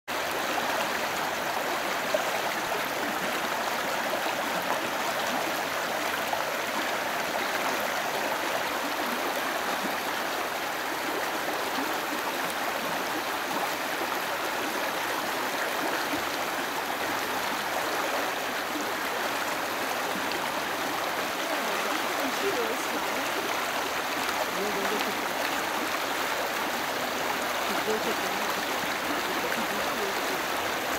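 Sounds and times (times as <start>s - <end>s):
stream water running: 0.1s - 30.9s.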